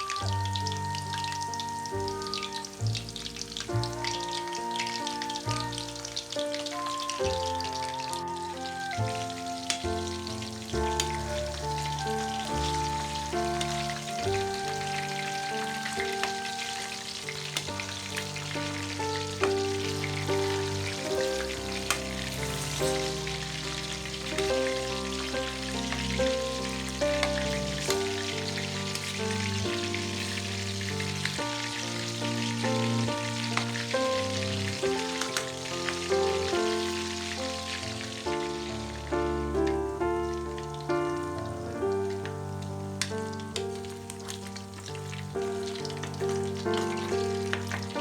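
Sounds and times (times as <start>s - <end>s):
background music sustained notes: 0.0s - 48.0s
food sizzling in a pan: 0.0s - 48.0s.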